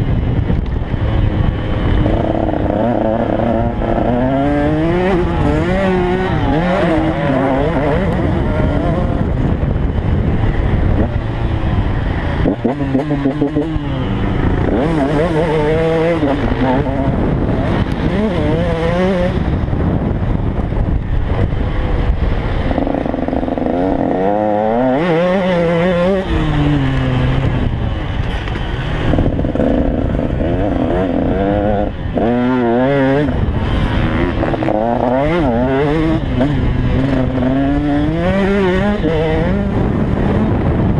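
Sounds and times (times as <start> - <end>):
two-stroke motocross engine revving: 0.0 - 40.9.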